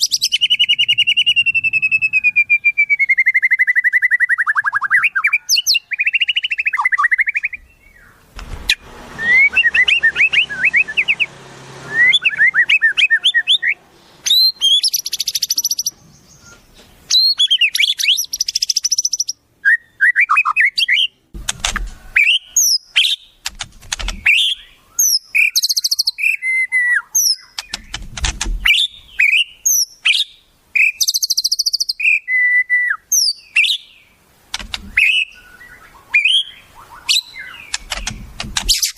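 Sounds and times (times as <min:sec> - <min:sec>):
songbirds whistling and trilling: 0:00.0 - 0:23.4, 0:24.0 - 0:38.9.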